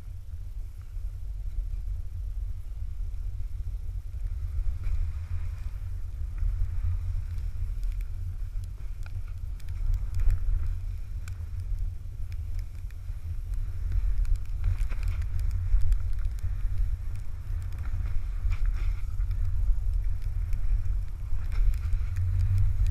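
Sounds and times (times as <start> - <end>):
wind rumble on microphone: 0.0 - 22.9
snowboard scraping over snow: 0.5 - 22.9
light clicks: 4.1 - 22.9.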